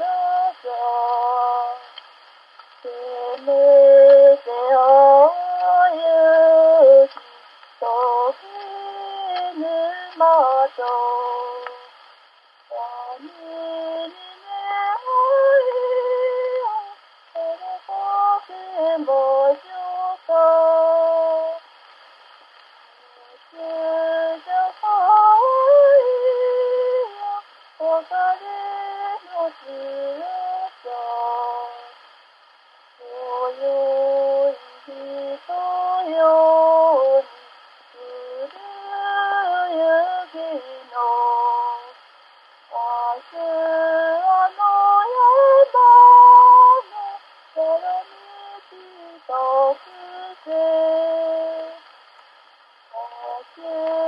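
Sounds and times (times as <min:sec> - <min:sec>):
woman singing: 0:00.0 - 0:02.1, 0:02.8 - 0:12.0, 0:12.7 - 0:21.6, 0:23.0 - 0:32.1, 0:33.0 - 0:42.1, 0:42.7 - 0:52.0, 0:52.9 - 0:54.0
faint hiss: 0:00.0 - 0:54.0.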